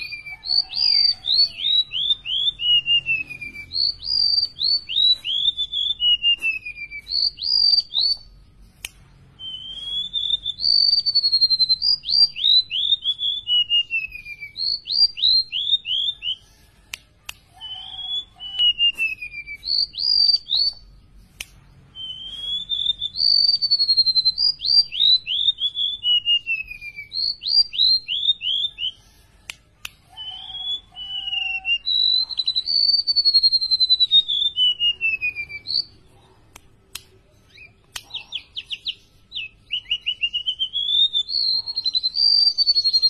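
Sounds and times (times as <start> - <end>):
bird singing high whistled notes: 0.0 - 8.4, 9.4 - 16.8, 17.6 - 20.9, 21.9 - 29.1, 30.1 - 36.0, 37.4 - 43.0.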